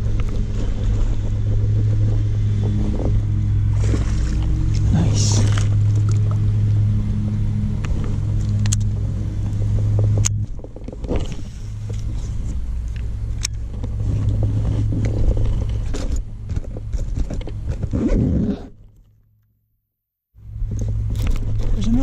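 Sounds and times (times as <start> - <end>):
low motor hum: 0.0 - 19.6, 20.4 - 22.0.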